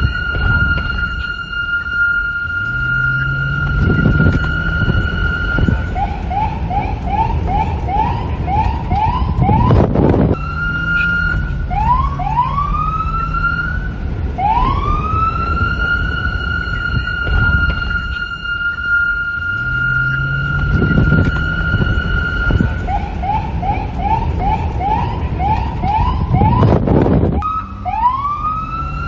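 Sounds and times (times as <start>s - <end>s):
low traffic rumble: 0.0s - 29.0s
police siren: 0.0s - 29.0s
wind: 0.0s - 29.0s.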